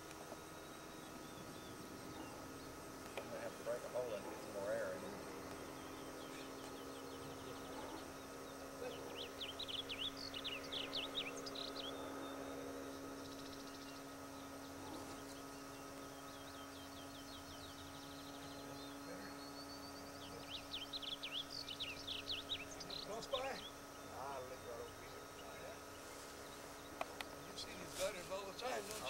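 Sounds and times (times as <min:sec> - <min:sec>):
faint steady hum: 0:00.0 - 0:29.0
songbird chirping: 0:00.0 - 0:29.0.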